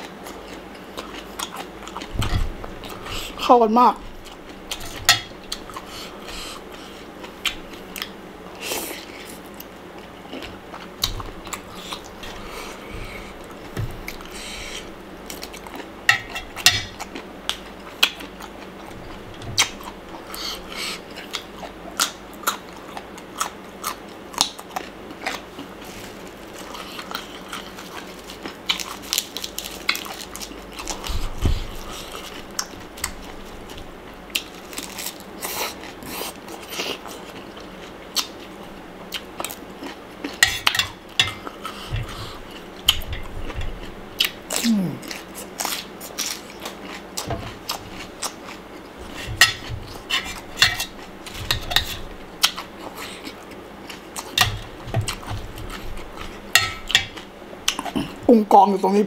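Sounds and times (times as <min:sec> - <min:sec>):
crunchy chewing: 0:00.0 - 0:03.3, 0:04.2 - 0:58.2.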